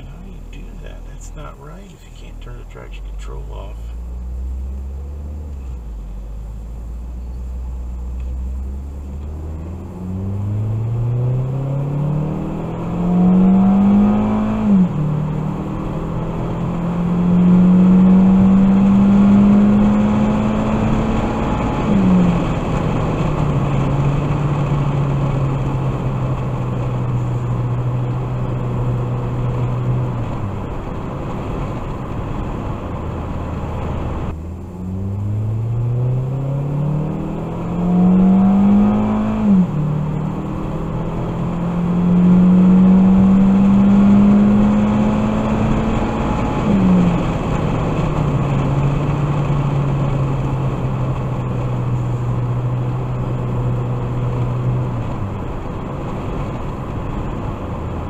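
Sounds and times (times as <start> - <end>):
car engine shifting gears: 0.0 - 58.0
road noise: 0.0 - 58.0.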